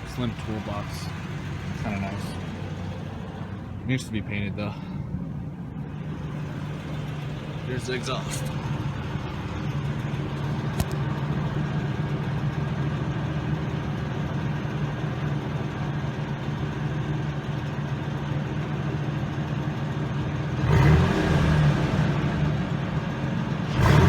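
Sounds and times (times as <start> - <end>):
truck engine idling and revving: 0.0 - 24.0.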